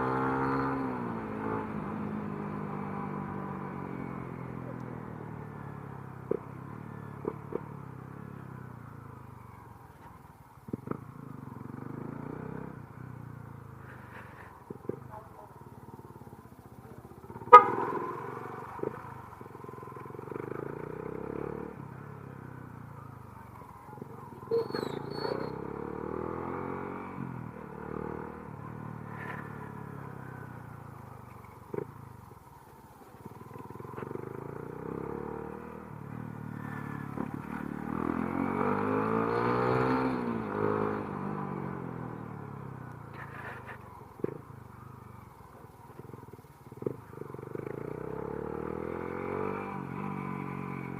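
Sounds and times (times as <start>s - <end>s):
highway traffic: 0.0s - 50.9s
motorcycle engine: 0.0s - 50.9s.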